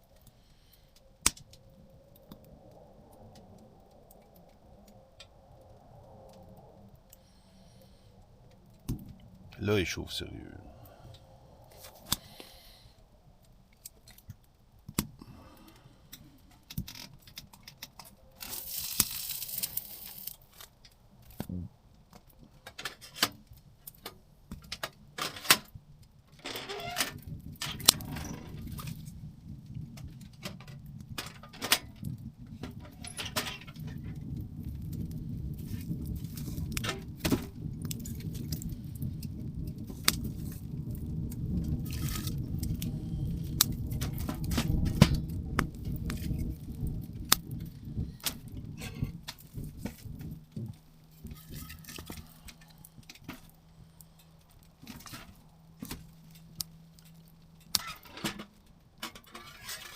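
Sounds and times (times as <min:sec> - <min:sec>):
low rumble of fire drawing: 0:00.0 - 0:59.9
wood fire crackling and popping: 0:00.0 - 0:59.9.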